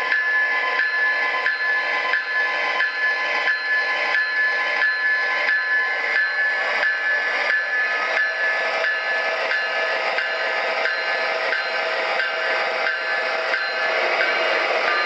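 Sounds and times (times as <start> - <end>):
model locomotive diesel sound: 0.0 - 15.0.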